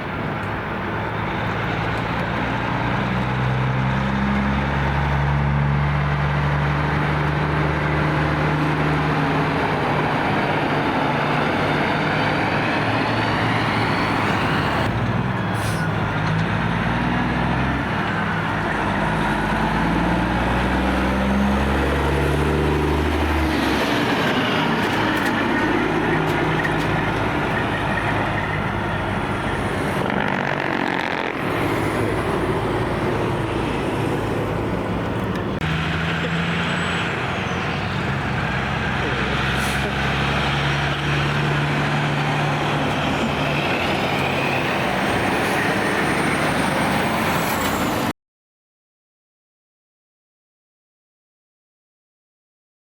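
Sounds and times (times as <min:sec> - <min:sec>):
diesel truck engines running: 0:00.0 - 0:48.1
road traffic noise: 0:00.0 - 0:48.1.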